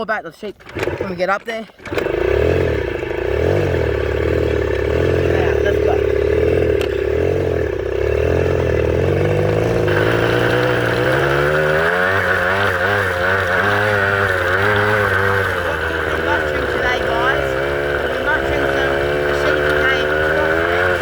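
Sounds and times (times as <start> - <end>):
farm vehicle engine running: 0.6 - 21.0.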